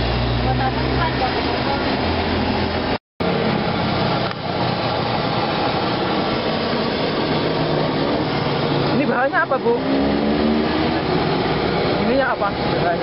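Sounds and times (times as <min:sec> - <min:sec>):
loud rushing noise: 0:01.6 - 0:13.0.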